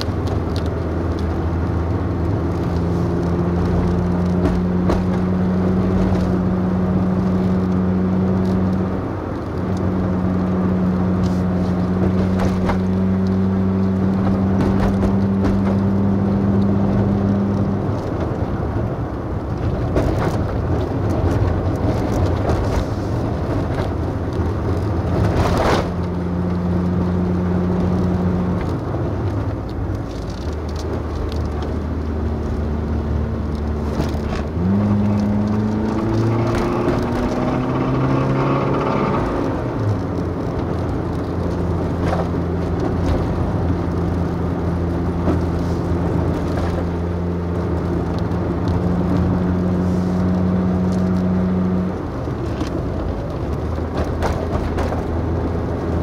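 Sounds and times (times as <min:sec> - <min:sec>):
road and tyre noise: 0:00.0 - 0:56.0
vehicle engine climbing: 0:00.0 - 0:56.0.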